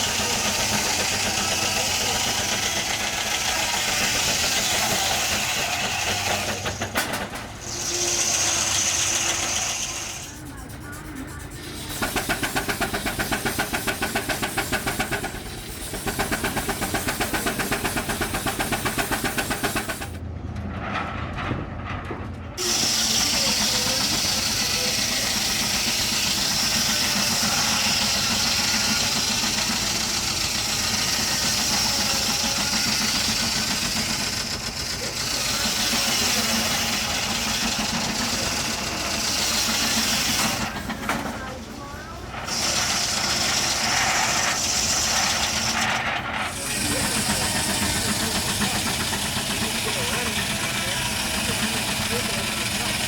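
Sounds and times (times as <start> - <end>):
steam hissing: 0.0 - 20.2, 22.6 - 53.0
engine running with fast beat: 0.0 - 20.4, 21.3 - 53.0.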